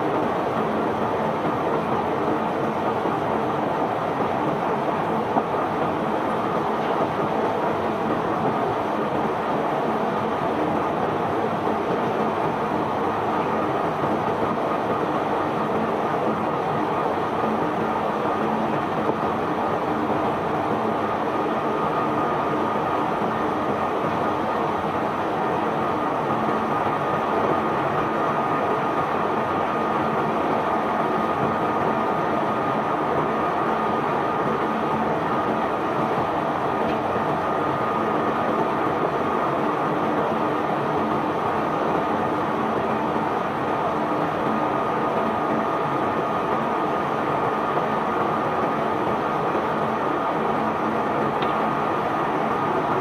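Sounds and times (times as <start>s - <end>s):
thin steady whine: 0.0s - 53.0s.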